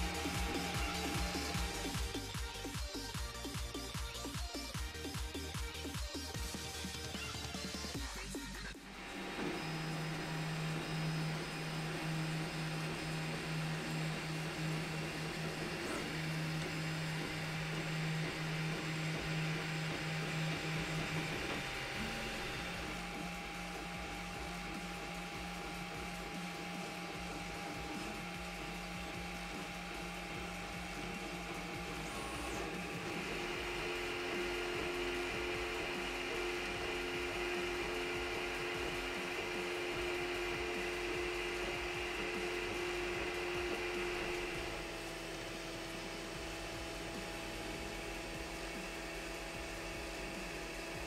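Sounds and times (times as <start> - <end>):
printer whirring: 0.0 - 2.3, 8.9 - 51.0
stepper motors tone: 0.0 - 51.0.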